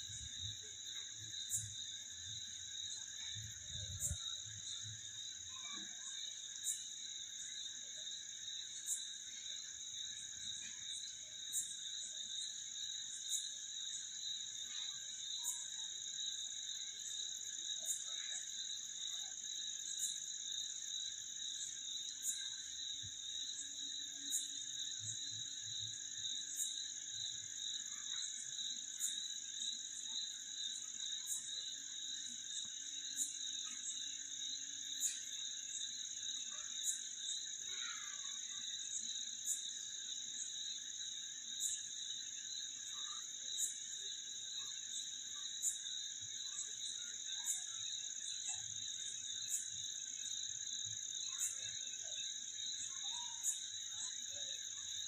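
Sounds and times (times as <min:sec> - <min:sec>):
faint insect and frog calls: 0:00.0 - 0:55.0.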